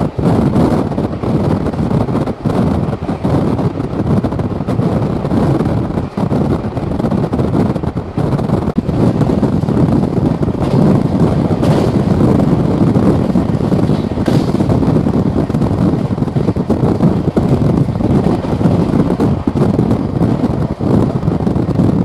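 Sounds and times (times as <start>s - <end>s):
train wheels rumbling on rail: 0.0s - 22.0s
wind rushing: 0.0s - 22.0s.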